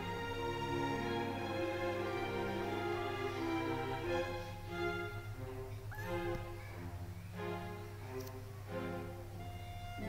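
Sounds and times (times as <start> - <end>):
slow string-like instrumental music: 0.0 - 10.0.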